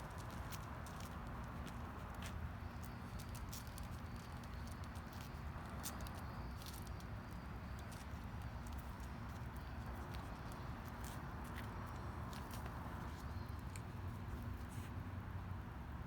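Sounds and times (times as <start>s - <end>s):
footsteps ticking and scuffing: 0.0s - 15.0s.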